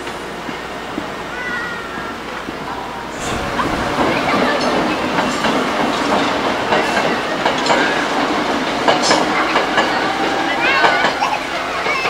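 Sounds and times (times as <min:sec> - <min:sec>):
crowd chatter: 0:00.0 - 0:12.0
train wheels clacking on rails: 0:00.0 - 0:12.0.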